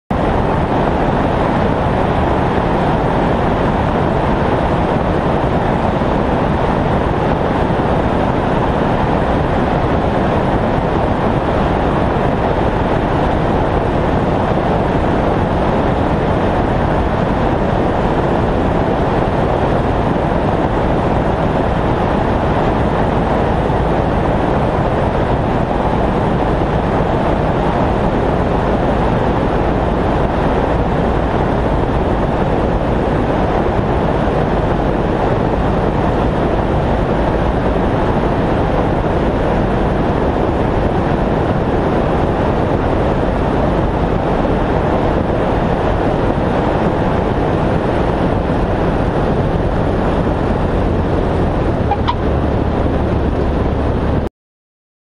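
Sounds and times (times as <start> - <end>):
airflow rushing: 0.1 - 54.3
airplane engine drone: 0.1 - 54.3.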